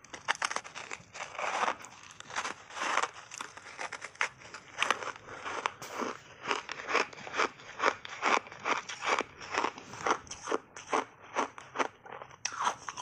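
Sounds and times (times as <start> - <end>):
ice bar crunching: 0.0 - 13.0.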